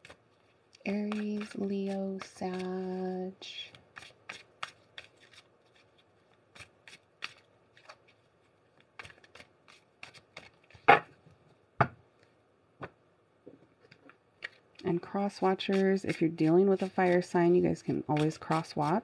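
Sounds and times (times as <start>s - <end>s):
cards being shuffled: 0.0s - 11.2s, 13.8s - 19.0s.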